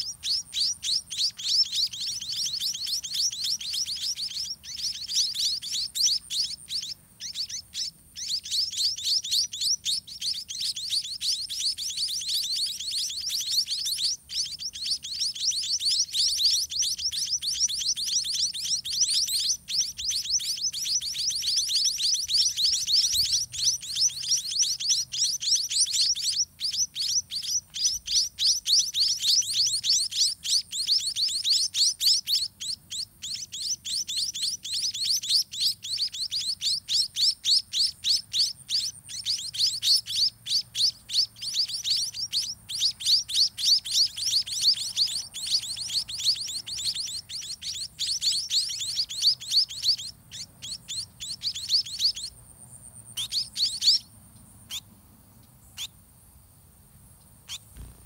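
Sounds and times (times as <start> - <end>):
nestlings chirping to be fed: 0.0 - 54.9, 55.6 - 56.0, 57.4 - 58.0.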